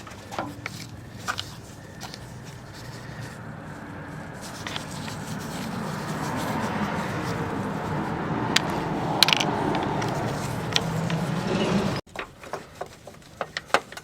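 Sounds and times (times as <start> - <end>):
hand tools scraping metal: 0.0 - 3.4, 4.3 - 14.0.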